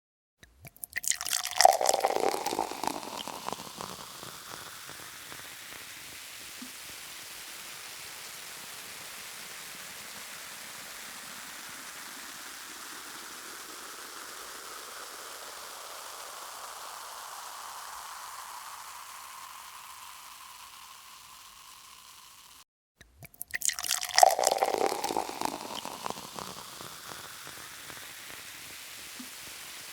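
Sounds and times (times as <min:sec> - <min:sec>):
carbonated drink fizzing: 0:00.7 - 0:22.6, 0:23.2 - 0:29.9.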